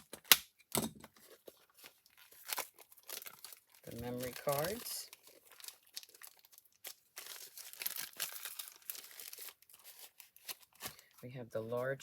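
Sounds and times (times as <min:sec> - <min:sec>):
packaging and paper crinkling: 0:01.1 - 0:12.0.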